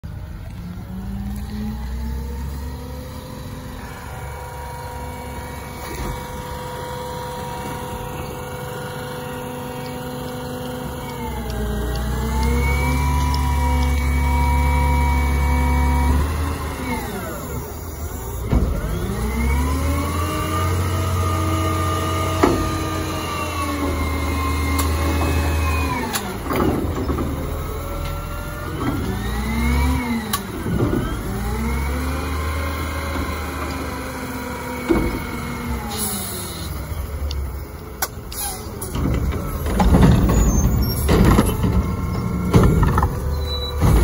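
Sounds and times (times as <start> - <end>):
garbage truck engine revving: 0.0 - 44.0.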